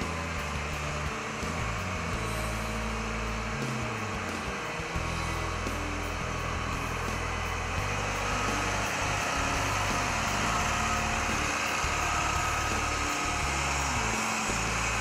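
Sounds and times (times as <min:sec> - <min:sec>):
combine diesel engine drone: 0:00.0 - 0:15.0
thin steady whine: 0:00.0 - 0:15.0.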